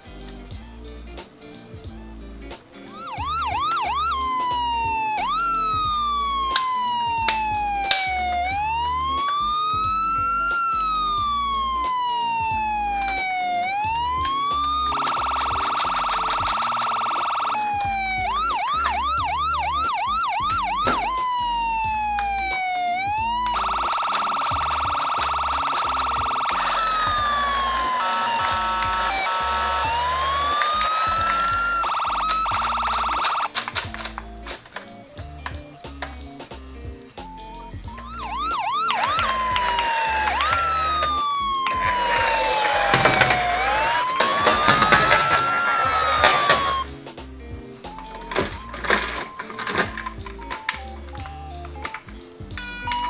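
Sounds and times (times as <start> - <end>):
toy electronic siren: 2.9 - 34.2, 37.9 - 46.9, 48.0 - 51.3, 52.6 - 53.0.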